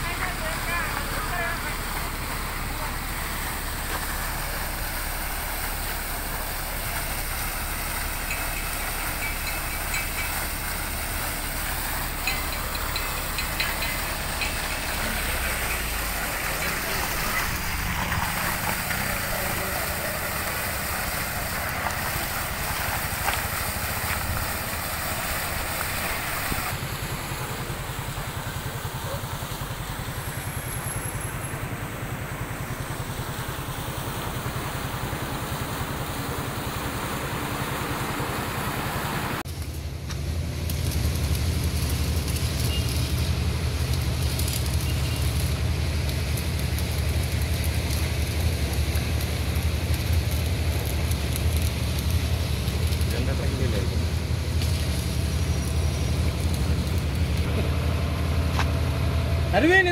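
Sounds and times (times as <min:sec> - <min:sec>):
vehicle engine running: 0:00.0 - 0:59.9
water gushing and spraying: 0:00.0 - 0:59.9.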